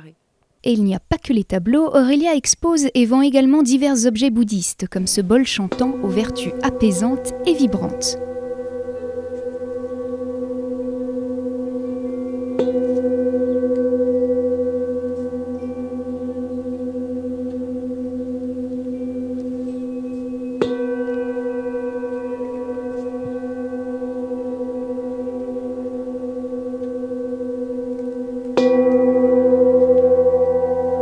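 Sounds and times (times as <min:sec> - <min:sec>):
metal singing bowl ringing: 0:05.5 - 0:31.0.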